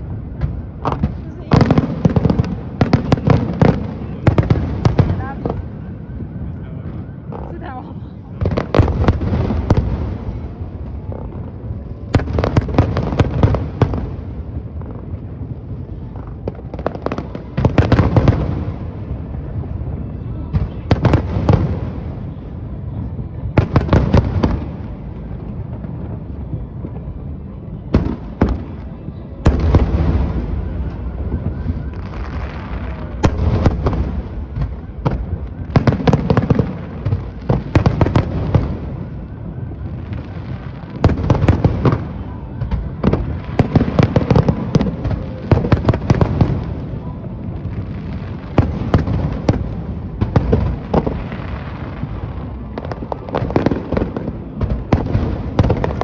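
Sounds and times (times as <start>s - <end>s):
fireworks cracking and booming: 0.0s - 56.0s.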